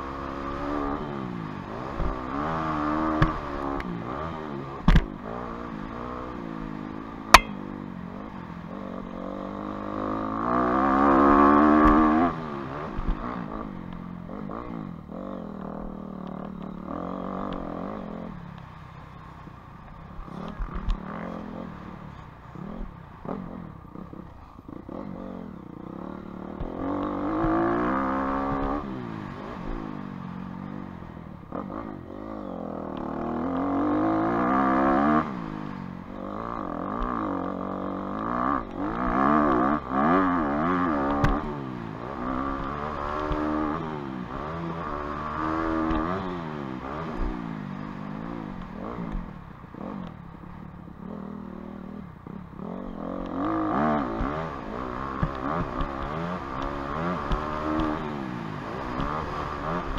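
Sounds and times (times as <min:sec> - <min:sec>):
dirt bike engine revving: 0:00.0 - 0:07.8, 0:08.7 - 0:18.3, 0:24.8 - 0:30.0, 0:31.5 - 0:50.1, 0:51.0 - 0:59.9.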